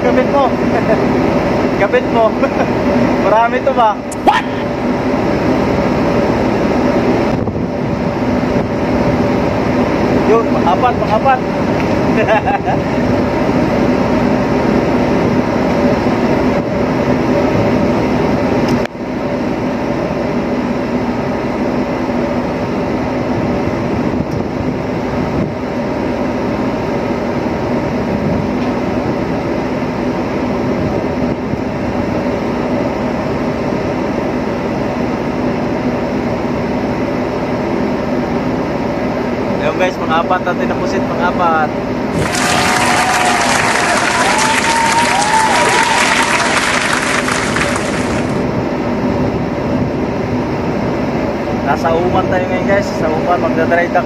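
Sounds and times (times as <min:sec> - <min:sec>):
ship machinery drone: 0:00.0 - 0:54.0.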